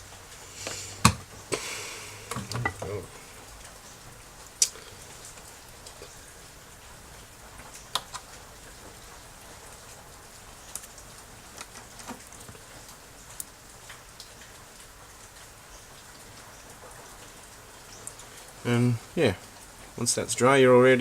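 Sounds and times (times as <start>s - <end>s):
faint hiss: 0.0s - 21.0s.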